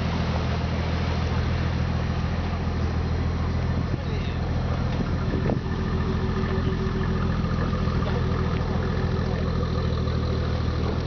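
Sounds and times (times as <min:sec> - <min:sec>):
car exhaust idling: 0:00.0 - 0:11.0.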